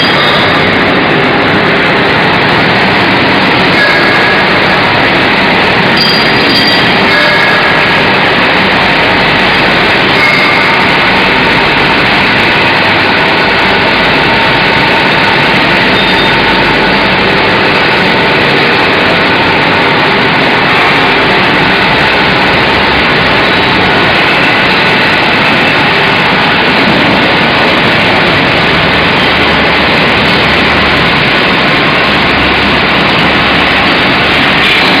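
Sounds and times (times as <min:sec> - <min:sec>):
industrial machine hissing: 0:00.0 - 0:35.0.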